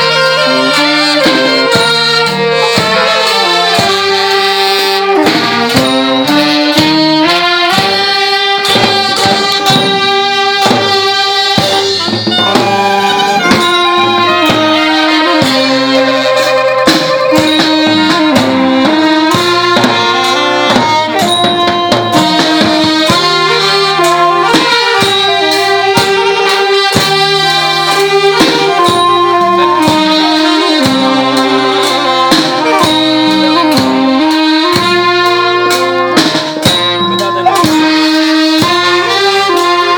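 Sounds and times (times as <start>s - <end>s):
brass band playing a melody: 0.0s - 39.9s
steady drum beat: 0.0s - 39.9s.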